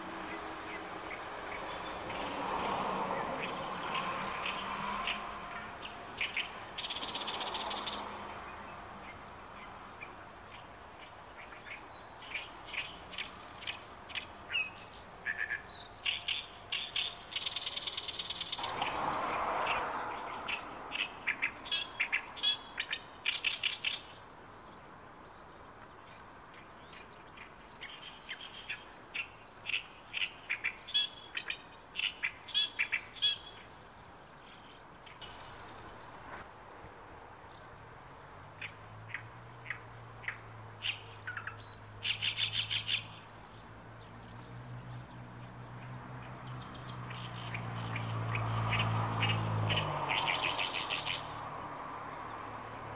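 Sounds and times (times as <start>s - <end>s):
reed warbler singing: 0.0s - 36.4s, 38.5s - 52.9s.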